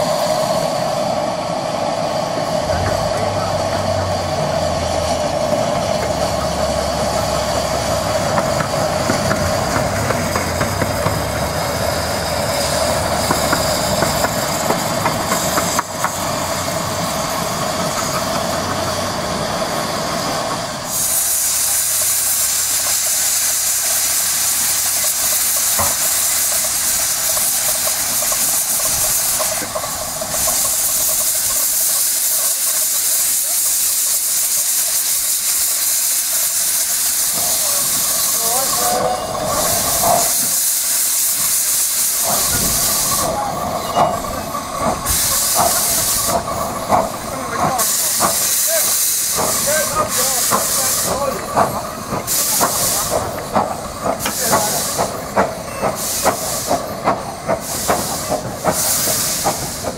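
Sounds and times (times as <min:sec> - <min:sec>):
diesel locomotive engine humming: 0:00.0 - 0:59.9
steam locomotive hissing steam: 0:00.0 - 0:59.9.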